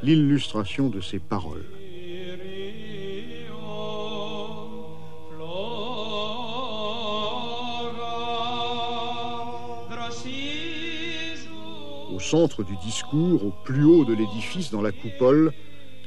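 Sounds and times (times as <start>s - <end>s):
person singing a chant: 1.4s - 16.0s.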